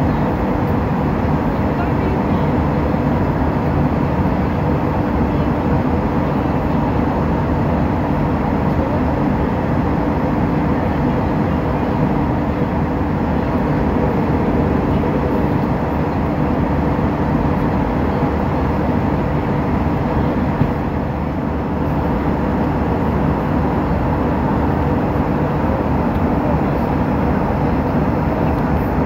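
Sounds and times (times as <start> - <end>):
airliner cabin noise: 0.0 - 29.0.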